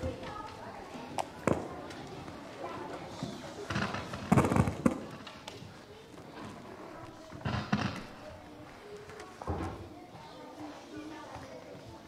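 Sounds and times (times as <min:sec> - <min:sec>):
children chattering: 0:00.0 - 0:12.0.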